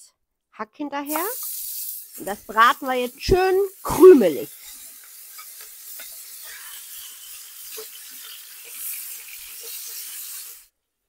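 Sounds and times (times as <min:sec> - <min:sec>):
meat sizzling in oil: 0:01.1 - 0:10.7.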